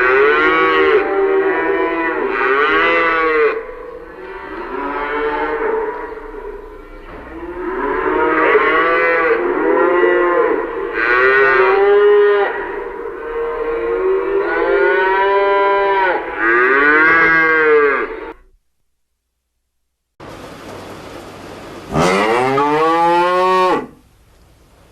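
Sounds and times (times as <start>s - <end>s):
cattle mooing: 0.0s - 18.5s, 21.9s - 24.0s.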